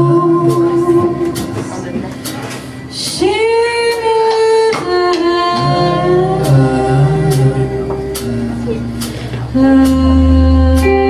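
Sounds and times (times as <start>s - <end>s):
woman singing long notes: 0.0s - 1.9s, 3.0s - 11.0s
bass and guitar: 0.0s - 11.0s.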